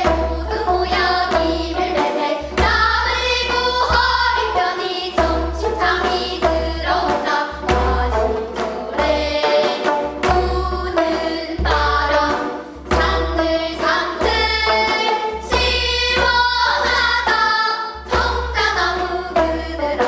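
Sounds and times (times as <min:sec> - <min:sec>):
girls singing together: 0:00.0 - 0:20.0.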